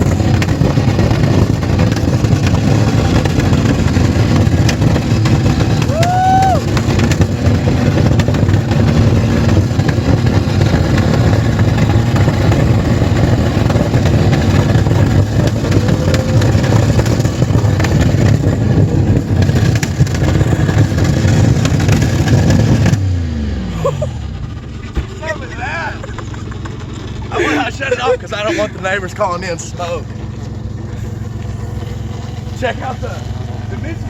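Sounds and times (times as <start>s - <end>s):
car engines revving high: 0.0s - 34.0s.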